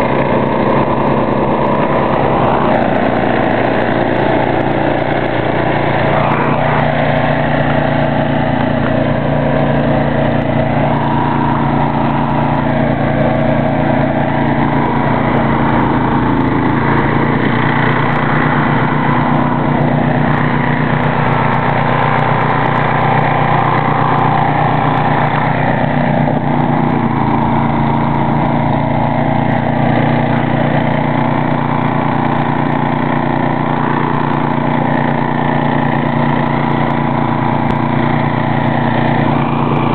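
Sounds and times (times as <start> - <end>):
snow thrower engine running: 0.0 - 39.9.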